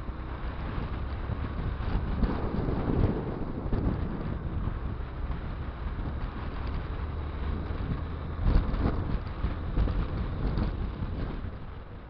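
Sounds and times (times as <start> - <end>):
motorcycle engine and tyres rumbling: 0.0 - 12.0
wind buffeting microphone: 0.0 - 12.0.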